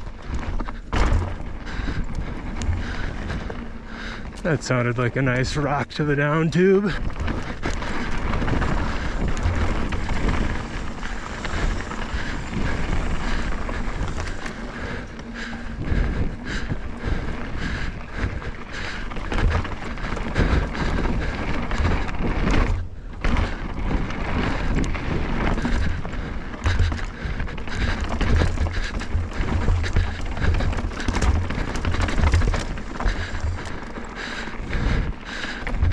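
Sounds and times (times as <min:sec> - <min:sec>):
bike tyres rumbling over rock: 0:00.0 - 0:35.9
bike chain and frame clattering: 0:06.2 - 0:35.9.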